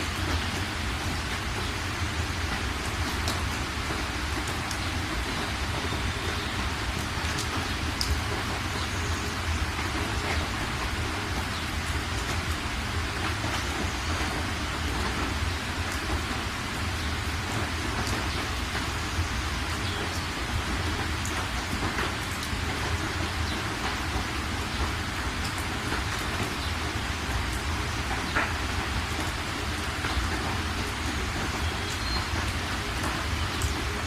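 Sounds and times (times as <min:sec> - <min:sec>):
raindrop ticks: 0:00.0 - 0:34.0
steady rain falling: 0:00.0 - 0:34.0.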